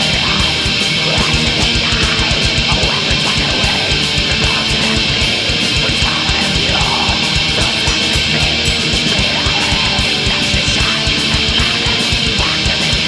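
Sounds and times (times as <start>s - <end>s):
distorted electric guitars: 0.0s - 13.0s
rapid kick drum: 0.0s - 13.0s.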